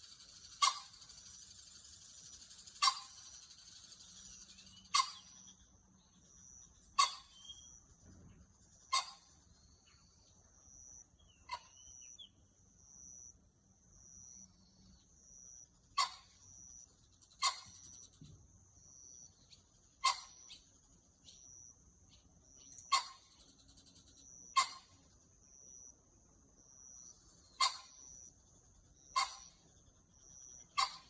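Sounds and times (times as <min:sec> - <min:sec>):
high insect trill: 0:00.0 - 0:31.0.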